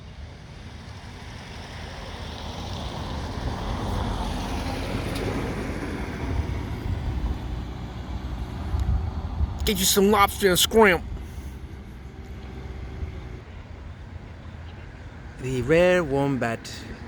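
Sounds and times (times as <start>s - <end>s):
highway traffic passing: 0.1s - 17.0s.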